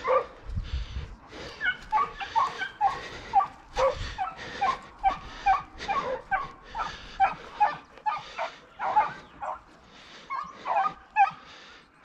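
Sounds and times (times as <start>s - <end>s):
hounds barking: 0.0s - 0.5s, 1.3s - 11.9s.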